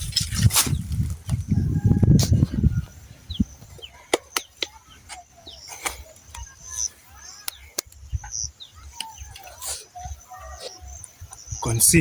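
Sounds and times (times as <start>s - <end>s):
birds and chickens chirping: 0.0s - 12.0s.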